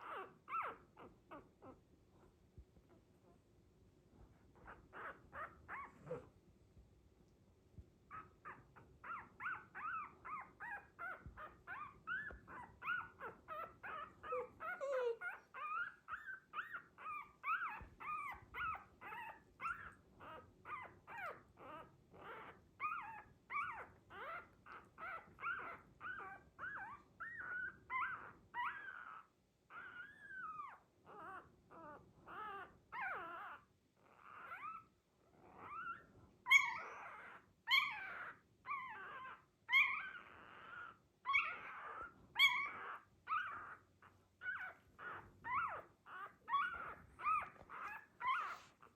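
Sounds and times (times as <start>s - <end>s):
puppy whimpering and whining: 0.0s - 2.3s, 4.5s - 6.4s, 8.1s - 48.9s.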